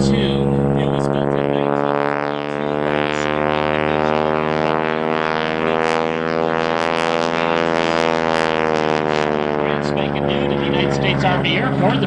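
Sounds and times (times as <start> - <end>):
radial engine and propeller droning: 0.0 - 12.0.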